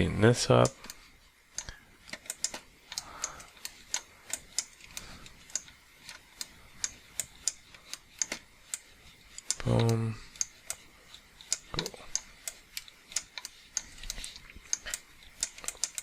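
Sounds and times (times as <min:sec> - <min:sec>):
computer mouse clicking: 0:00.6 - 0:16.0.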